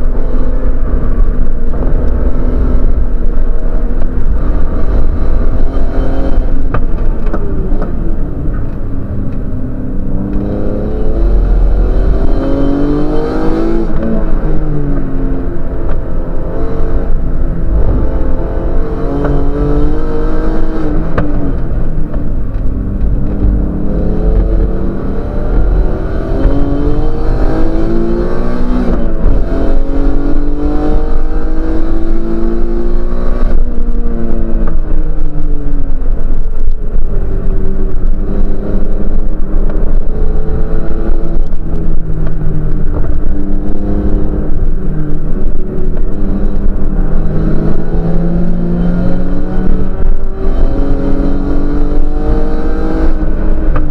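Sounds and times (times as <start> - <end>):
race car engine revving: 0.0 - 53.9
road and wind rumble: 0.0 - 53.9.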